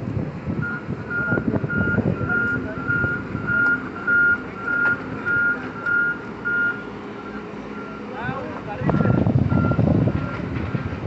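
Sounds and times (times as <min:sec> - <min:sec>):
diesel engine rumble: 0:00.0 - 0:11.0
reversing alarm beeping: 0:00.6 - 0:10.9.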